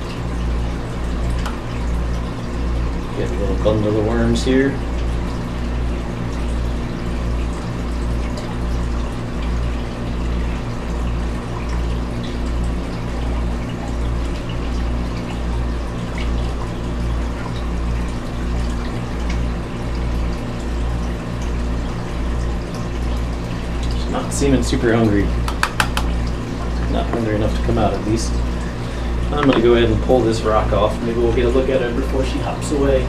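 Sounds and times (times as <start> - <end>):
pump humming: 0.0 - 33.0
water trickling: 0.0 - 33.0.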